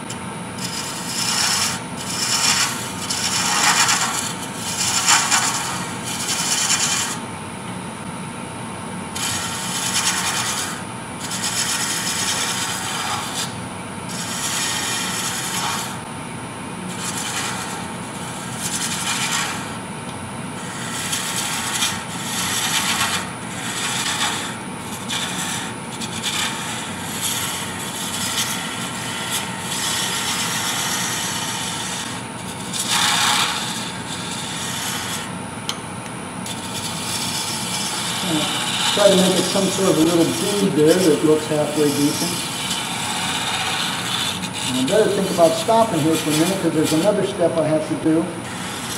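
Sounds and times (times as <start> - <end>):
turning tool scraping wood: 0.0 - 7.2, 9.2 - 16.1, 16.9 - 19.8, 20.6 - 35.3, 36.4 - 48.9
wood lathe humming: 0.0 - 7.3, 9.1 - 16.2, 16.8 - 19.8, 20.5 - 35.8, 36.4 - 48.9.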